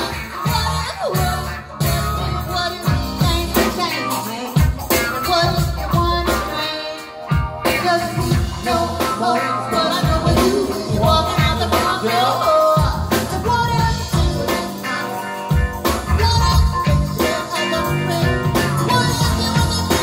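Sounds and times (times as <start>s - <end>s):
live soul band playing: 0.0s - 20.0s
person singing: 0.0s - 20.0s.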